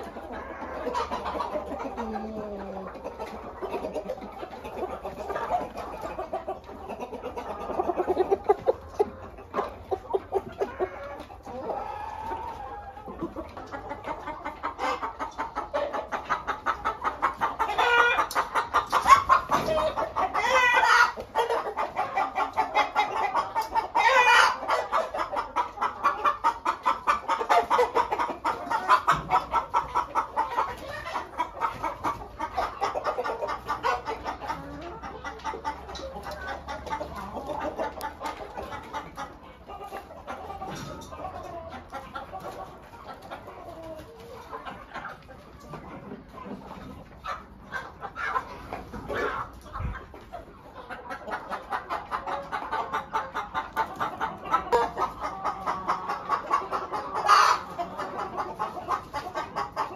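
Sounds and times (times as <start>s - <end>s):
loud long chicken calls: 0.0s - 45.8s, 46.7s - 59.9s
chickens clucking: 0.0s - 59.9s.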